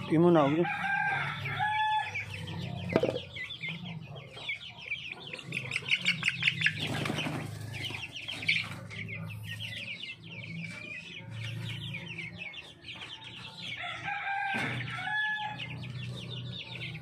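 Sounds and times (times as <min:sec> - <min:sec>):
chickens peeping and clucking: 0:00.0 - 0:17.0.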